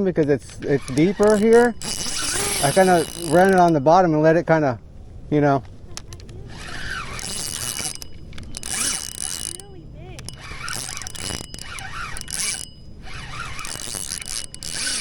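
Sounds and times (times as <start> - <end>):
fishing reel drag clicking: 0.2 - 3.9, 6.0 - 15.0.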